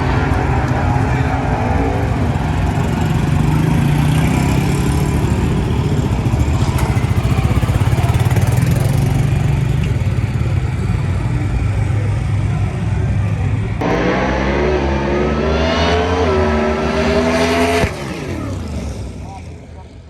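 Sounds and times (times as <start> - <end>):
car engine deep rumble: 0.0 - 20.0.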